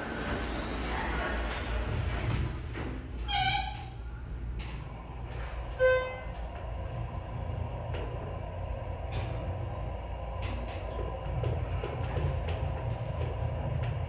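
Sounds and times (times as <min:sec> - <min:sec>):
elevator low rumble: 0:00.0 - 0:14.0.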